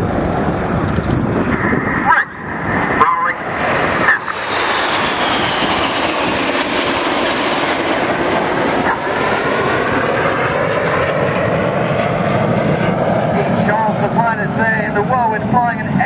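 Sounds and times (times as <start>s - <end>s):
jets flying past overhead: 0.0s - 16.0s.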